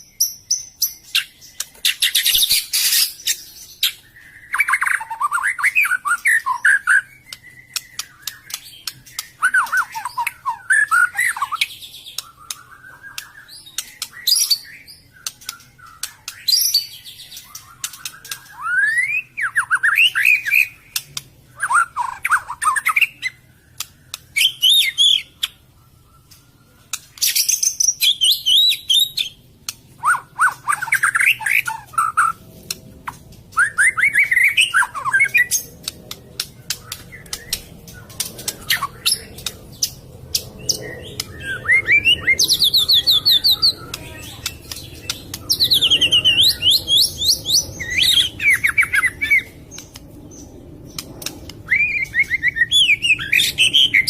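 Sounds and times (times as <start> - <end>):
bird singing whistled trills: 0.0 - 29.4, 30.0 - 32.4, 33.5 - 54.0.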